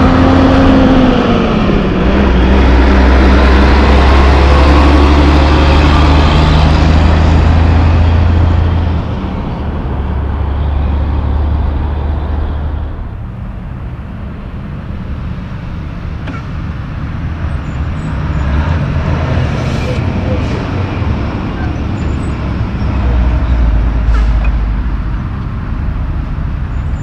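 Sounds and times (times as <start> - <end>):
second truck approaching: 0.0 - 27.0
truck diesel engine droning: 0.0 - 27.0.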